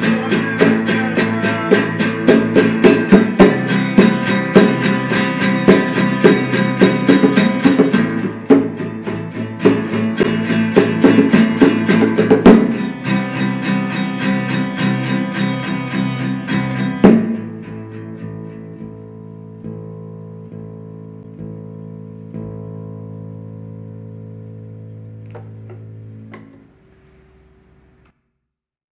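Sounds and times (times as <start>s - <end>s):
electric and acoustic guitars strumming: 0.0s - 28.1s.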